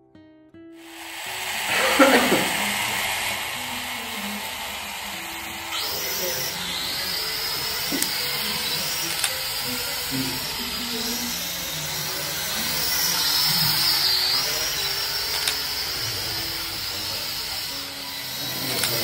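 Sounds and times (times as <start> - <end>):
toy drone propeller whine: 0.8 - 19.0.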